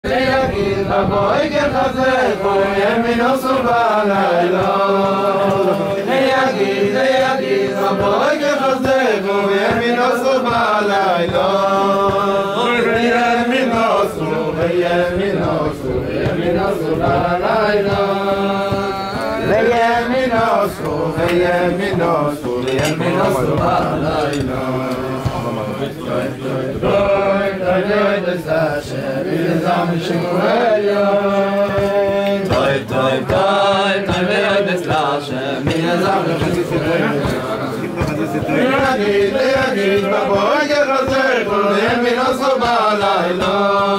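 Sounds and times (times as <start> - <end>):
men singing together: 0.0 - 43.9.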